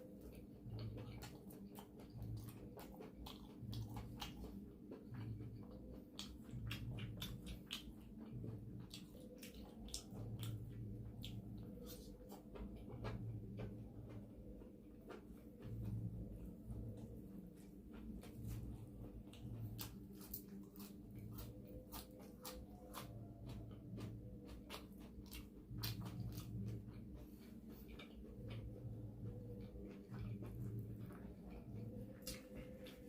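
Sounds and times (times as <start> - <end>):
low hum: 0.0 - 33.0
wet chewing mouth sounds: 0.0 - 33.0.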